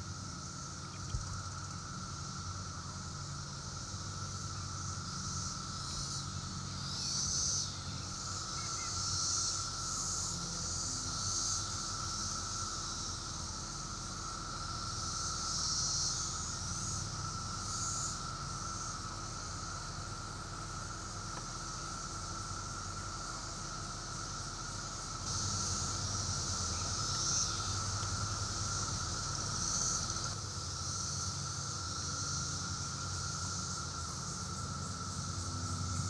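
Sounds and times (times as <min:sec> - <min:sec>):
cicadas droning: 0:00.0 - 0:36.0.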